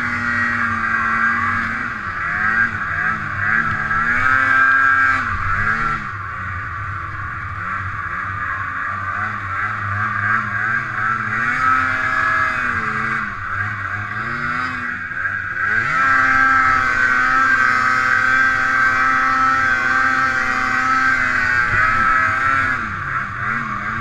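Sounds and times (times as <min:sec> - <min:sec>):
high whine: 0:00.0 - 0:24.0
snowmobile engine running: 0:00.0 - 0:24.0.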